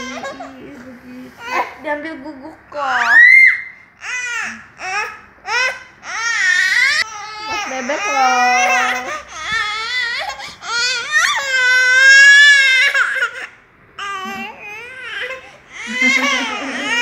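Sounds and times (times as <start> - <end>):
toddler crying and wailing: 0.0 - 0.6, 3.1 - 17.0.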